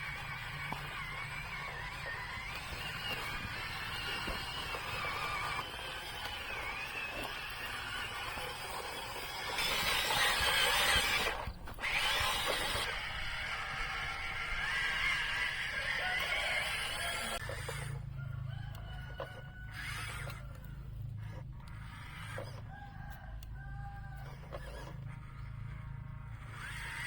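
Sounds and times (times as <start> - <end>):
toy excavator motors whirring: 0.0 - 27.0.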